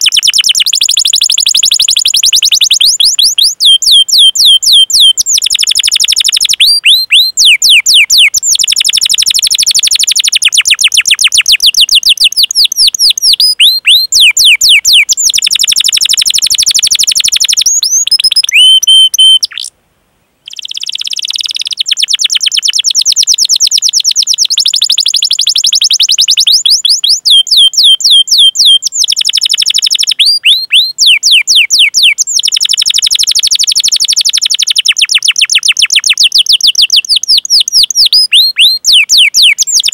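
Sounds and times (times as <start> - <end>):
canary singing trills: 0.0 - 19.7, 20.4 - 39.9.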